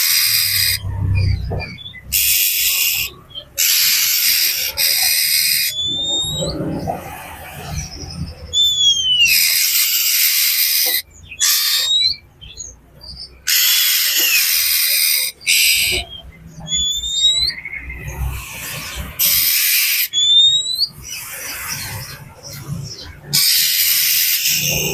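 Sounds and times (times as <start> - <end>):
bird harsh rasping calls: 0.0 - 24.9.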